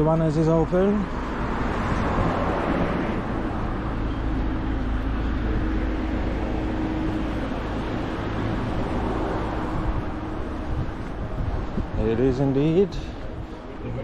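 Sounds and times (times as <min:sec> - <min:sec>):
low traffic rumble: 0:00.0 - 0:14.0
vehicle engine hum: 0:00.0 - 0:14.0.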